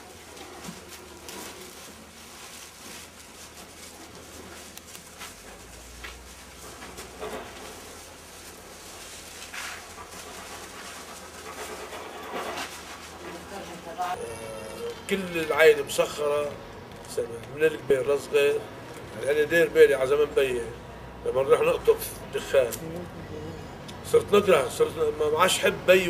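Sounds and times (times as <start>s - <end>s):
dry tobacco leaves rustling: 0.0s - 22.8s.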